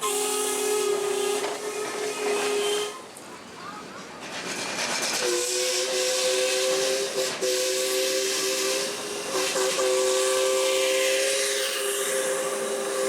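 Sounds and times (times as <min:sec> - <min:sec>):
steam hissing: 0:00.0 - 0:03.0, 0:04.3 - 0:13.0
steam locomotive whistle: 0:00.0 - 0:03.1, 0:05.2 - 0:13.0.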